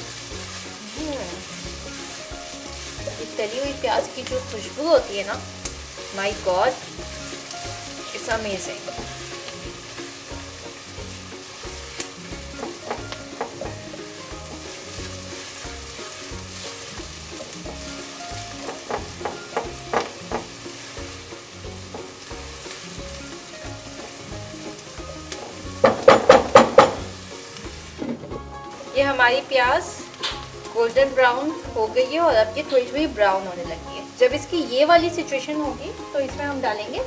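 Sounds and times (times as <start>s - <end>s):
onions sizzling in oil: 0.0s - 37.0s.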